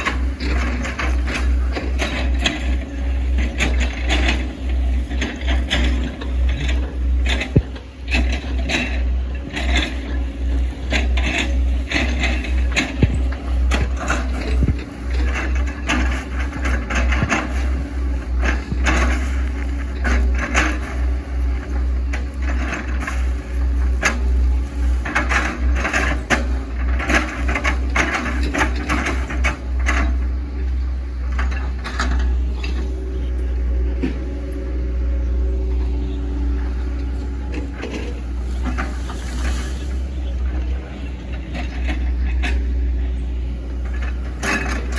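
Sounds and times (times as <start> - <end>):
excavator diesel engine rumbling: 0.0 - 44.9.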